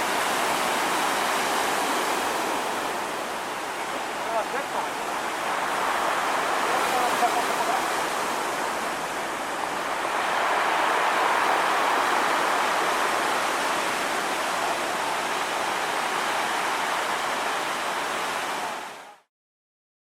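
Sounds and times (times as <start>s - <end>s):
heavy surf breaking on beach: 0.0s - 19.3s.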